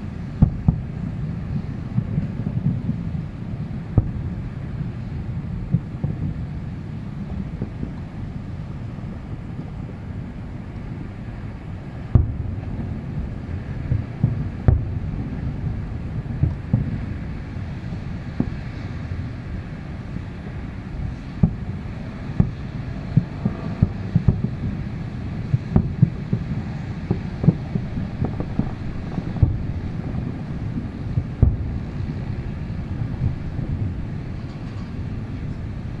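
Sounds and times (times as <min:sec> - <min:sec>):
distant fireworks booming: 0:00.0 - 0:36.0
wind rumble on microphone: 0:00.0 - 0:36.0.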